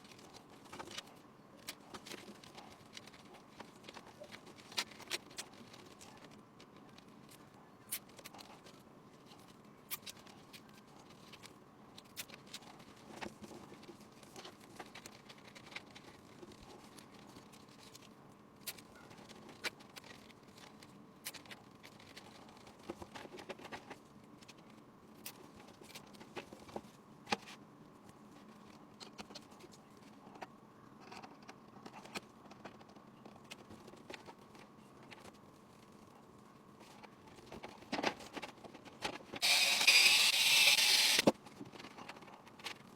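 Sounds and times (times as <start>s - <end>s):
light clicks taps and scratches: 0.0s - 39.4s.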